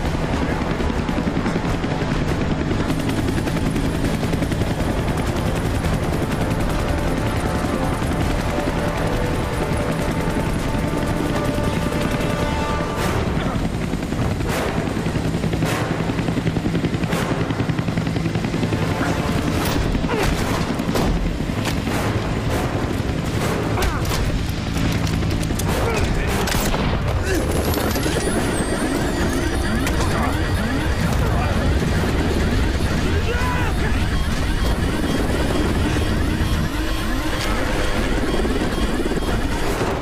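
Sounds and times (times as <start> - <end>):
film score music: 0.0 - 40.0
helicopter rotor: 0.0 - 40.0.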